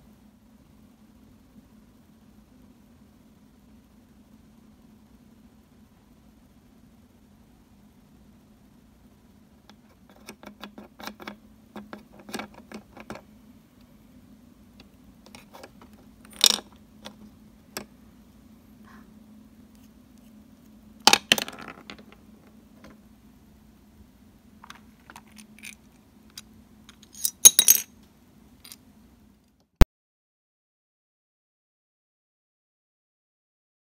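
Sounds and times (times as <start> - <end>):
low steady hum: 0.0 - 29.8.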